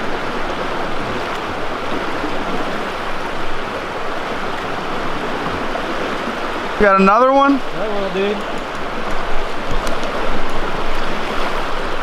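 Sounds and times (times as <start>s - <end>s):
river rushing past boulders: 0.0s - 12.0s.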